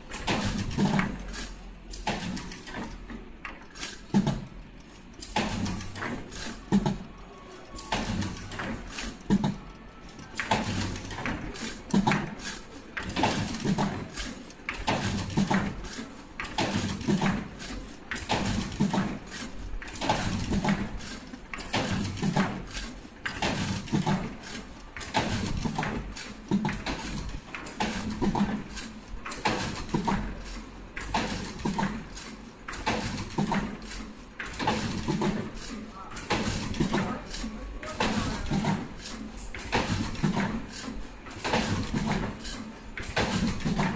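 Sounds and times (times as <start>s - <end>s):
machine conveyor clacking: 0.0s - 43.9s.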